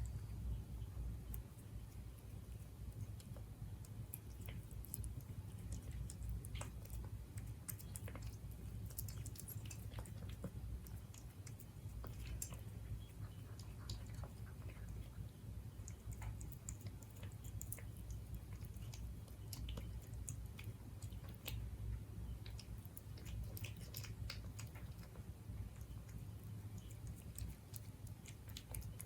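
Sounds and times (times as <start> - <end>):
cat chewing food: 0.0 - 29.0
low steady hum: 0.0 - 29.0.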